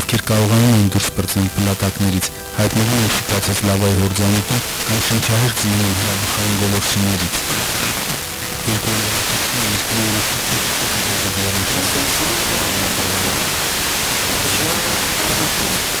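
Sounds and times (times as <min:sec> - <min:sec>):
faint broken voice on radio: 0:00.0 - 0:16.0
radio static hiss: 0:00.0 - 0:16.0.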